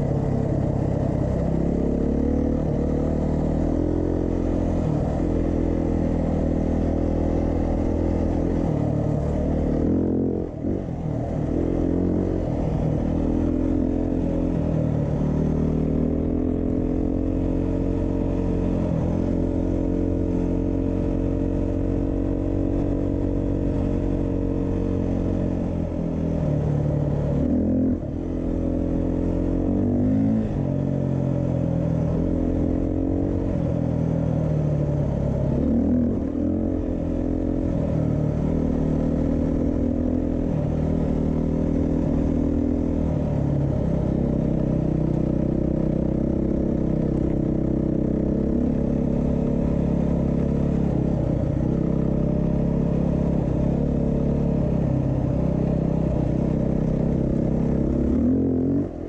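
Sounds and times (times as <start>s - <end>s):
motorcycle engine riding: 0.0s - 59.0s.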